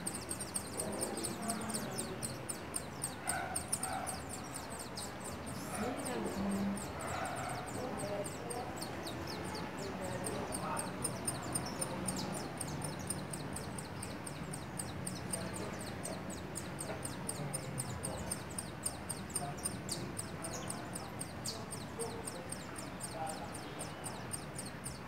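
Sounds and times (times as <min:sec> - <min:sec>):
nestling begging calls: 0:00.0 - 0:25.0.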